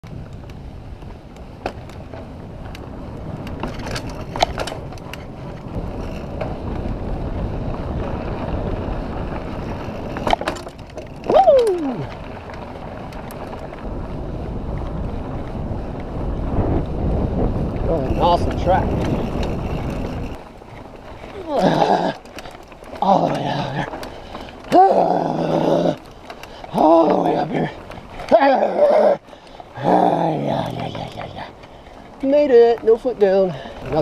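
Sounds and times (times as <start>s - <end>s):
bike rattles and knocks: 0.0s - 34.0s
bike tyre and wind noise: 0.0s - 34.0s.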